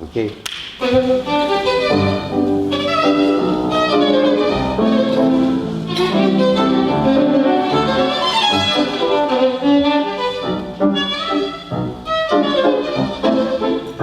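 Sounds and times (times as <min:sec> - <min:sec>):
violin playing a melody: 0:00.8 - 0:14.0.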